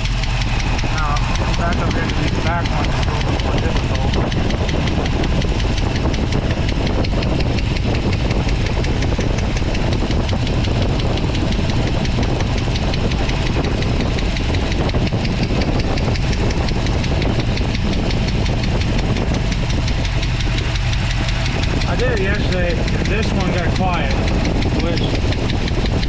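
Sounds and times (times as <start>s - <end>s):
car engine idling: 0.0s - 26.0s
lifter tap ticking: 0.0s - 26.0s.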